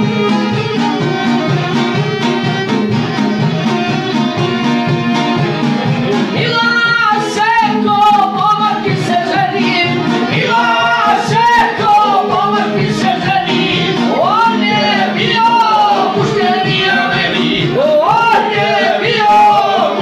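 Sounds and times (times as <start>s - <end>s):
long-necked plucked string instrument: 0.0s - 17.8s
acoustic guitar: 0.0s - 20.0s
person singing with vibrato: 0.0s - 20.0s
violin: 0.0s - 20.0s.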